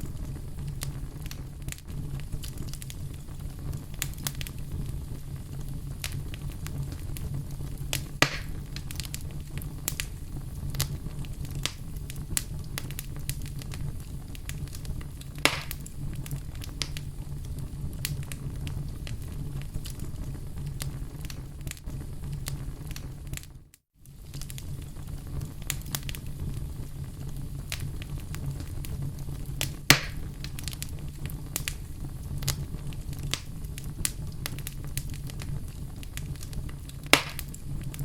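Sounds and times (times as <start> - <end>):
fireplace fire crackling: 0.0 - 38.0
loud fire pops: 0.0 - 38.0.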